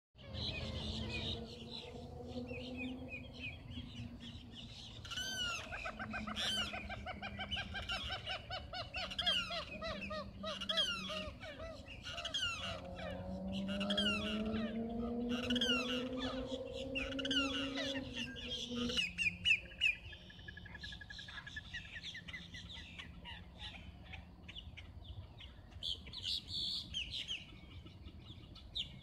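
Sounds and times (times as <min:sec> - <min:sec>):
birds chirping and squawking: 0:00.2 - 0:29.0.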